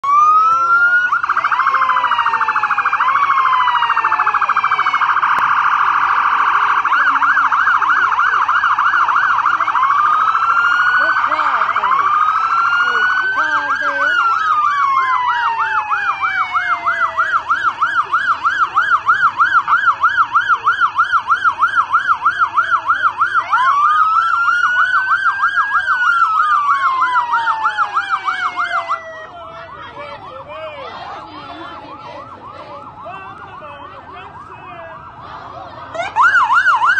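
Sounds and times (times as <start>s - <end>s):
siren fast warbling yelp: 0.0s - 36.9s
sirens wailing: 0.0s - 36.9s.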